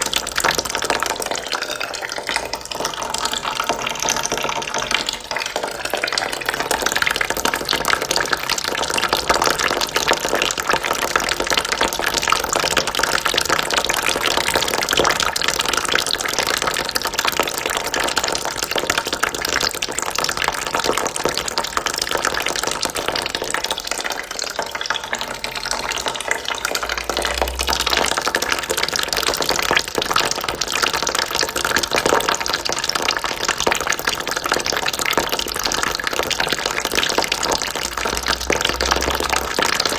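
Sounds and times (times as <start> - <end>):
water trickling into a bucket: 0.0 - 39.9.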